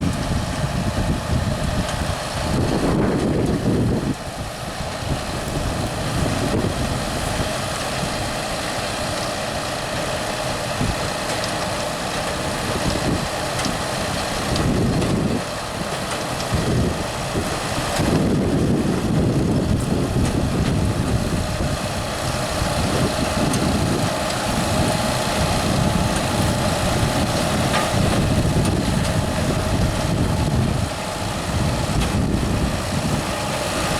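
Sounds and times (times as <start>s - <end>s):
tractor engine and machinery drone: 0.0s - 33.9s.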